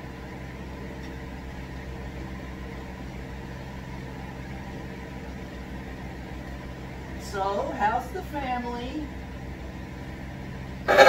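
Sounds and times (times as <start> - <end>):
washing machine spinning: 0.0 - 11.0.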